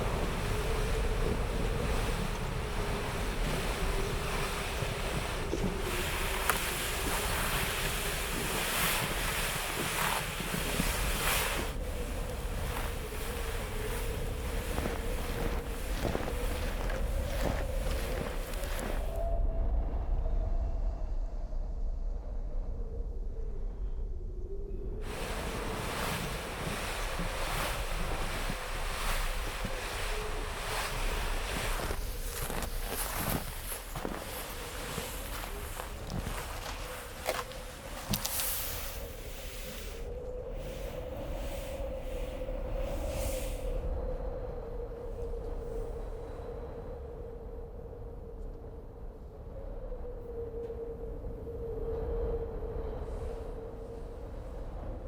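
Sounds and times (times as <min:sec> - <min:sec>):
wind gusts buffeting microphone: 0:00.0 - 0:20.4, 0:25.0 - 0:55.0.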